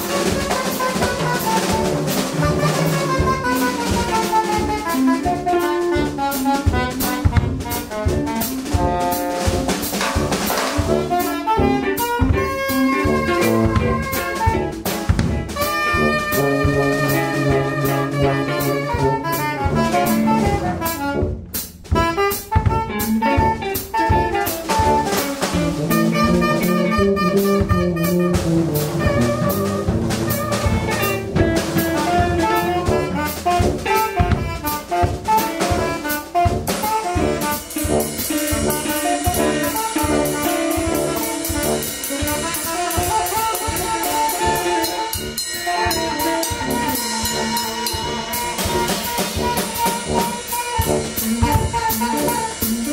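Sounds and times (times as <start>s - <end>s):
cymbals: 0.0s - 52.9s
drums: 0.0s - 52.9s
jazz band playing: 0.0s - 52.9s.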